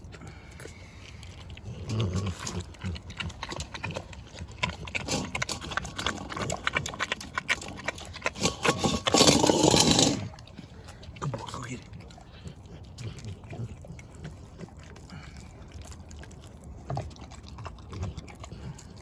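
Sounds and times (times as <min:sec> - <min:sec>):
dog crunching bones: 0:00.0 - 0:19.0.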